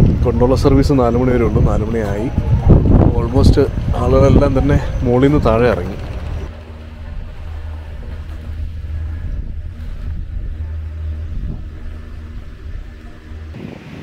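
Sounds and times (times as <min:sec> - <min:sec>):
motor running: 0:00.0 - 0:13.6.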